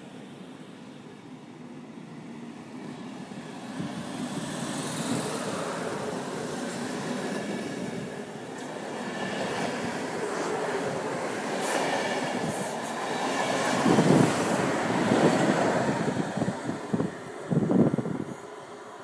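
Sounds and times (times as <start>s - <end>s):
electric train rumbling: 0.0s - 19.0s.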